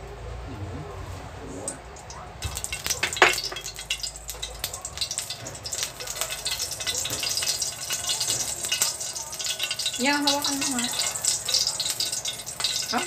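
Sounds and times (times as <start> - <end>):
oil sizzling and popping in a wok: 2.0 - 13.0.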